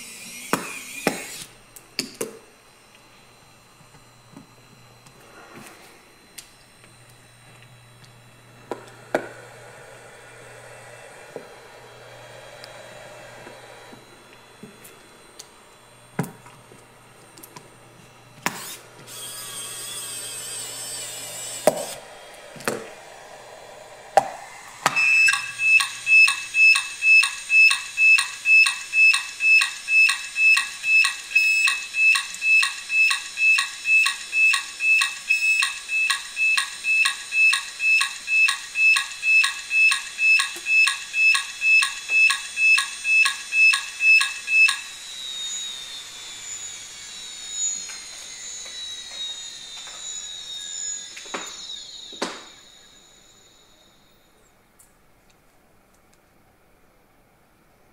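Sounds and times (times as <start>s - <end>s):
hard drive spindle whine: 0.0s - 54.8s.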